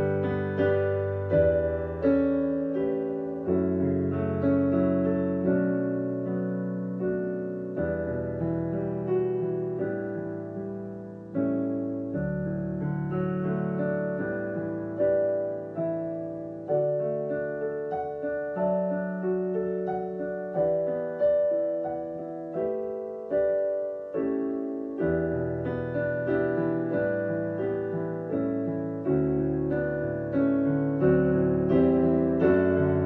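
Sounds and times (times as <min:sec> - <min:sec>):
slow gentle piano melody: 0:00.0 - 0:33.0.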